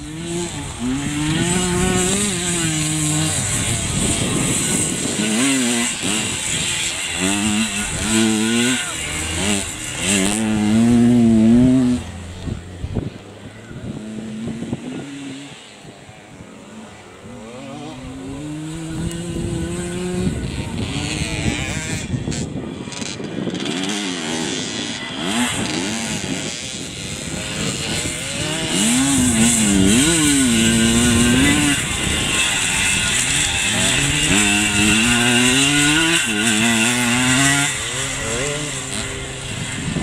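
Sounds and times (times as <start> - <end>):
off-road motorcycle engines revving: 0.0 - 40.0.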